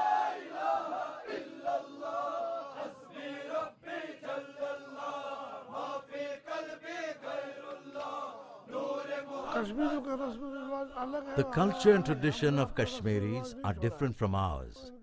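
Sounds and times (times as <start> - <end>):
men chanting a hymn: 0.0 - 15.0.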